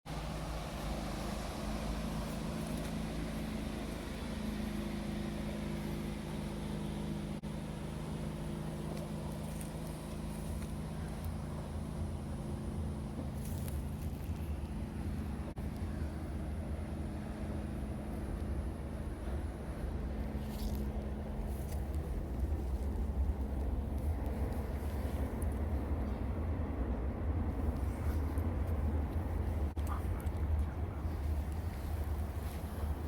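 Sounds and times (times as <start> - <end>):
low mechanical hum: 0.1 - 33.0
outdoor rush: 0.1 - 33.0.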